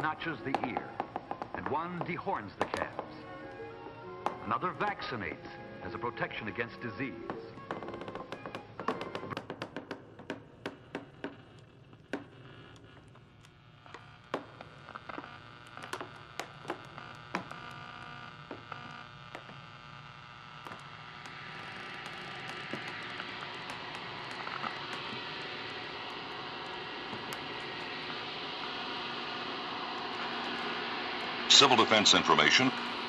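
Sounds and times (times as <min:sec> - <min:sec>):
radio static hiss and hum: 0:00.0 - 0:09.4, 0:10.2 - 0:33.0.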